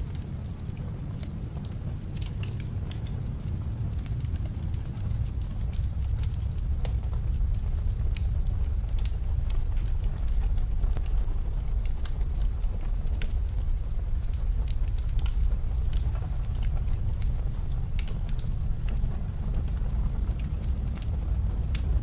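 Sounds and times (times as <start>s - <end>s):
blizzard wind rumble: 0.0s - 22.0s
wood fire crackling: 0.0s - 22.0s.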